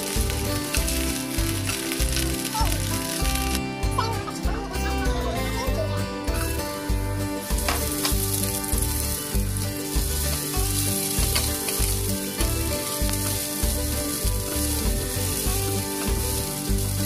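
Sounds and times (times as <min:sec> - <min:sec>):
ginger sizzling in hot oil: 0:00.0 - 0:03.8, 0:06.5 - 0:17.0.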